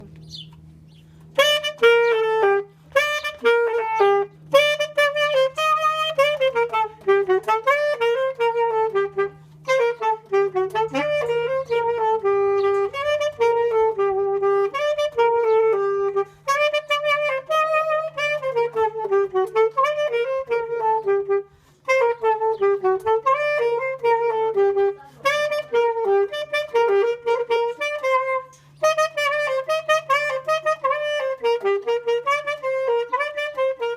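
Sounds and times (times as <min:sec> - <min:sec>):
saxophone melody: 0:00.0 - 0:33.9.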